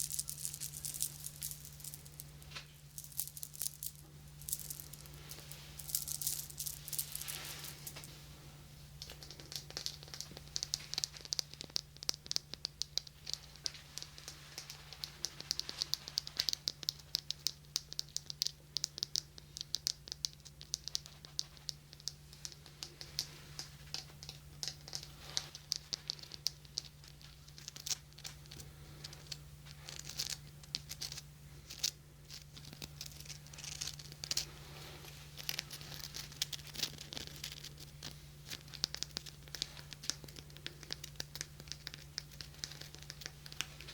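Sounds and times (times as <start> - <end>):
faint electrical hum: 0.0 - 43.9.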